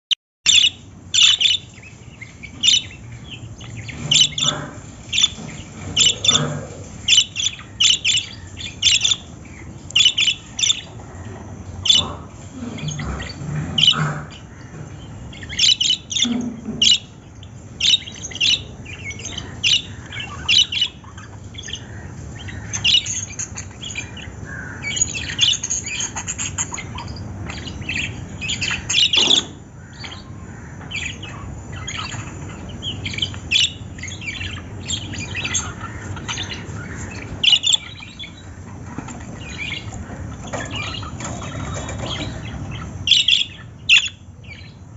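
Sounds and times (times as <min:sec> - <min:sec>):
parrots chirping and squawking: 0:00.5 - 0:44.9.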